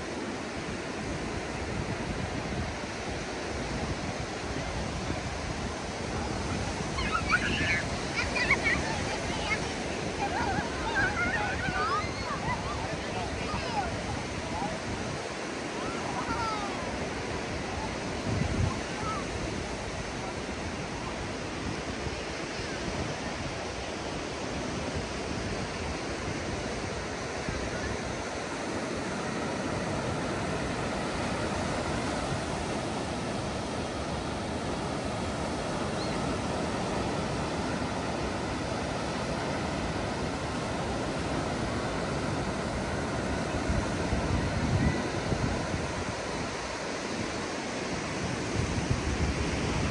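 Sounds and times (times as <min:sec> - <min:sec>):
ocean surf breaking: 0:00.0 - 0:49.9.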